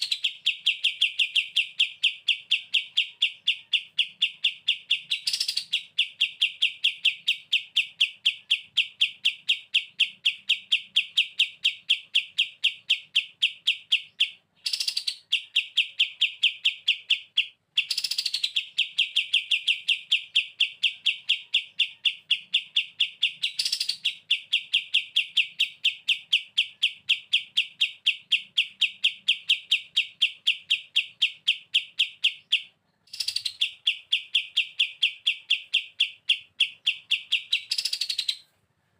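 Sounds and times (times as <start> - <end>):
songbird rattling trill: 0.0 - 38.4.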